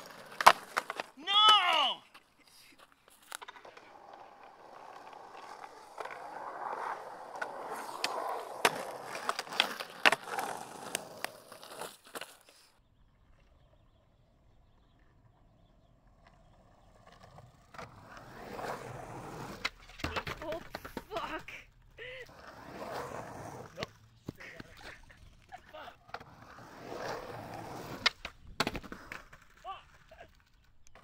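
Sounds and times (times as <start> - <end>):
skateboard wheels rolling on pavement: 0.0 - 31.0.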